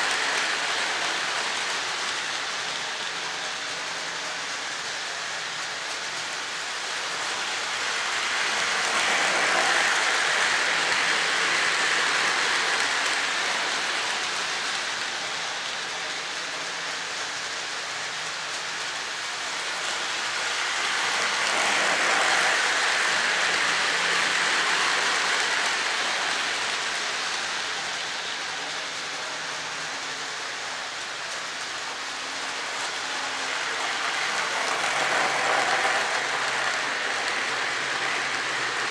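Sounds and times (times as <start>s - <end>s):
model train wheels rumbling on rail: 0.0s - 38.9s.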